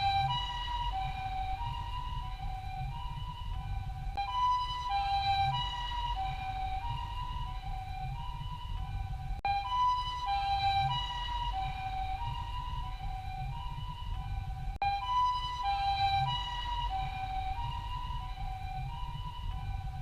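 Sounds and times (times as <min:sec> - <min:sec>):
ambulance two-tone siren: 0:00.0 - 0:20.0
low rumble: 0:00.0 - 0:20.0.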